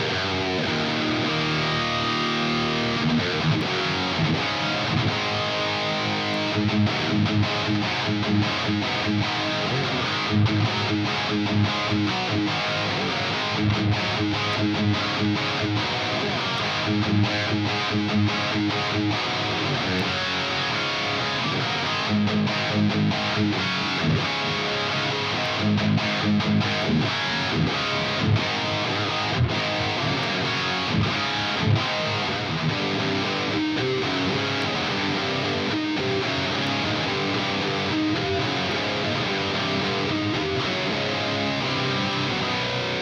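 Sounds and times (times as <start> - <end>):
distorted electric guitar riffs: 0.0 - 43.0.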